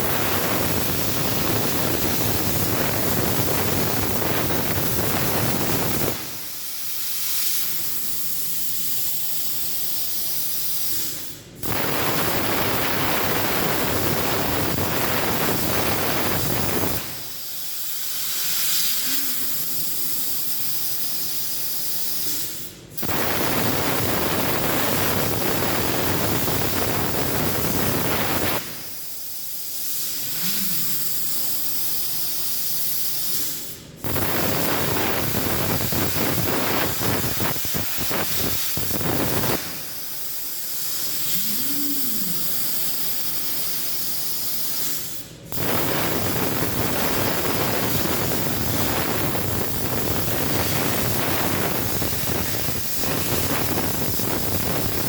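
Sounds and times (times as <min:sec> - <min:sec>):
plasma cutter hissing: 0:00.0 - 0:55.0.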